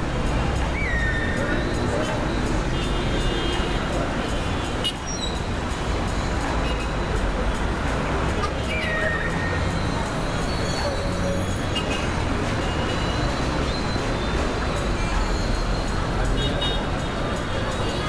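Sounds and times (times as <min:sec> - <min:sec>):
murmur of voices: 0:00.0 - 0:18.0.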